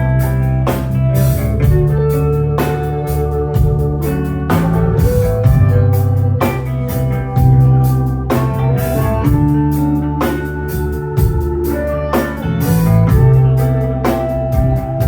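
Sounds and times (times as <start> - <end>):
blues band playing: 0.0 - 15.0
held organ chords: 0.0 - 15.0.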